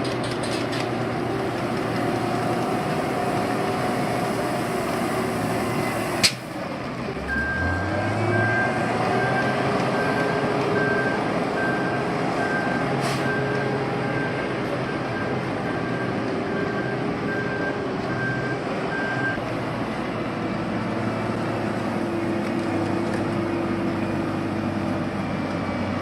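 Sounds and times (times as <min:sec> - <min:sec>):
diesel construction machinery running: 0:00.0 - 0:26.0.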